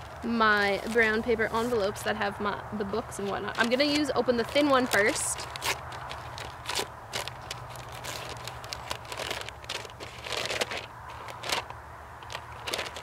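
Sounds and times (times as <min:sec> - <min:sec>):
paper envelope crinkling and tearing: 0:00.0 - 0:02.1, 0:03.1 - 0:13.0.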